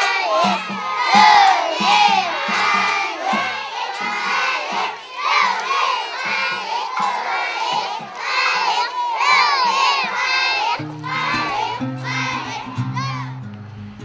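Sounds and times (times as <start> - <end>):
children shouting and cheering: 0.0 - 13.8.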